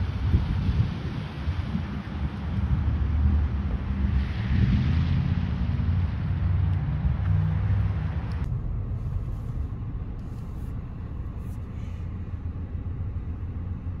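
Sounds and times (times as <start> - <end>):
wind buffeting microphone: 0.0 - 12.6
road traffic rumble: 0.0 - 14.0.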